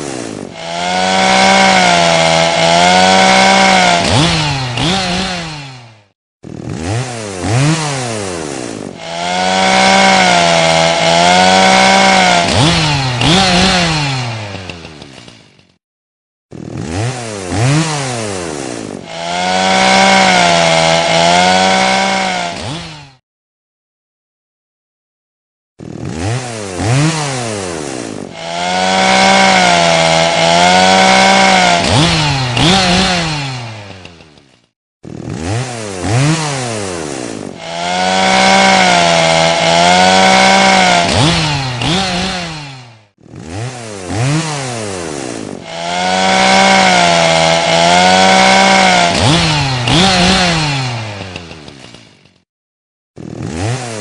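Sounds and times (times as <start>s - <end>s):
chainsaw engine revving: 0.0s - 15.8s, 16.5s - 23.2s, 25.8s - 52.5s, 53.2s - 54.0s.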